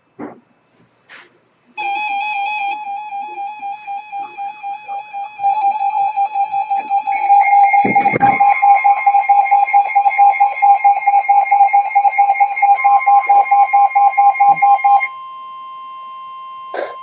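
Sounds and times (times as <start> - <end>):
rapidly pulsing electronic beep: 1.8 - 17.0.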